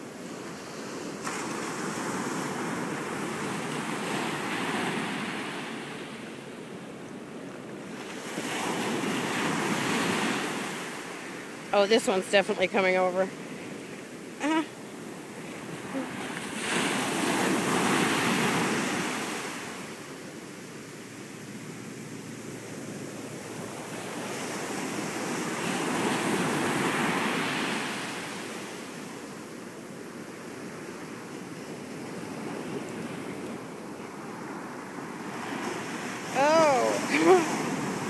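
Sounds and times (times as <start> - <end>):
ocean surf breaking: 0.0 - 38.0.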